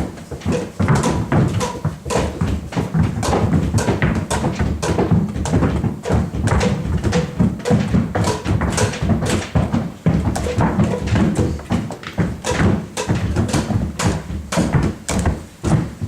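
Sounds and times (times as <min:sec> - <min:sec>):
people stamping feet on floor: 0:00.0 - 0:16.0.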